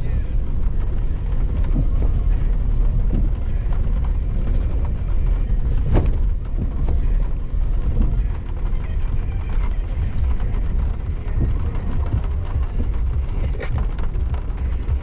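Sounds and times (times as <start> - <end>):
knocks and clunks: 0.0 - 15.0
off-road vehicle rumbling: 0.0 - 15.0.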